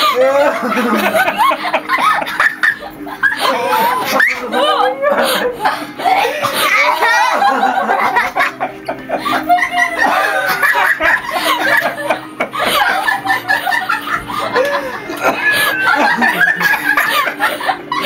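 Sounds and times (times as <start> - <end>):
man laughing hard: 0.0 - 18.0.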